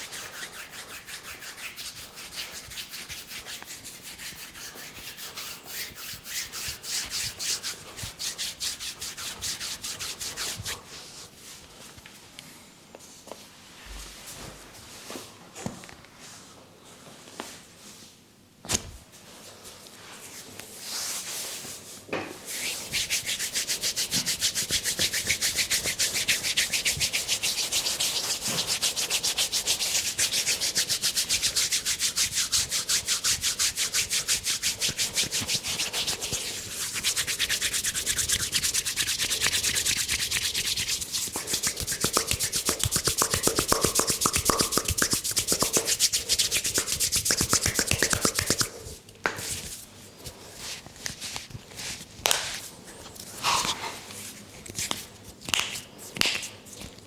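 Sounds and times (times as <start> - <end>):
hands rubbing hair and skin: 0.0 - 11.3, 22.5 - 57.0.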